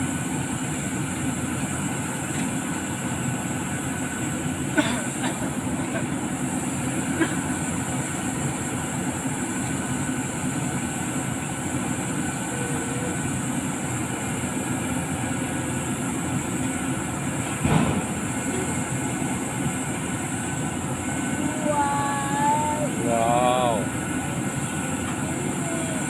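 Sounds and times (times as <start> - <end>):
large diesel engine running: 0.0 - 26.0.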